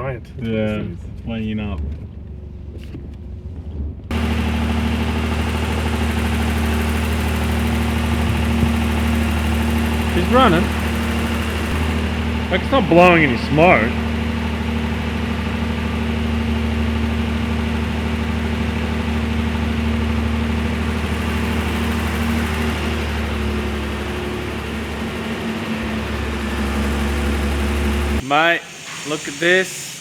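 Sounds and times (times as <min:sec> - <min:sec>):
car engine droning: 0:04.1 - 0:30.0.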